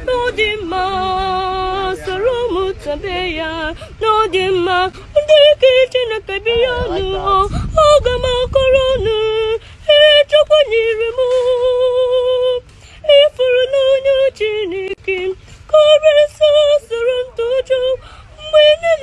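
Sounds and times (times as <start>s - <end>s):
boy singing: 0.0s - 19.0s.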